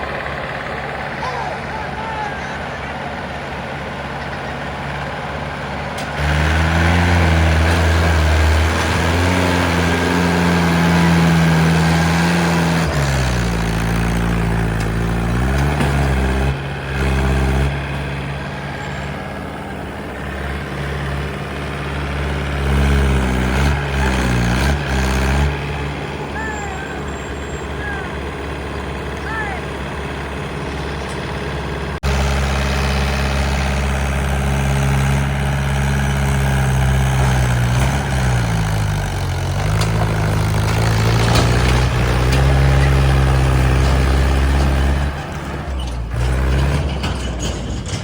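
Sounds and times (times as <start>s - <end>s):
diesel engine revving: 0.0s - 48.0s.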